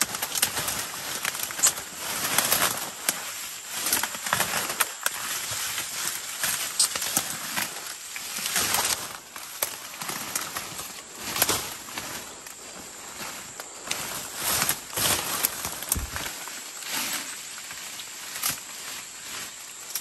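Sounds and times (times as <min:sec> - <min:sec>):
leaves and branches rustling: 0:00.0 - 0:20.0
twigs crackling and snapping: 0:00.0 - 0:20.0.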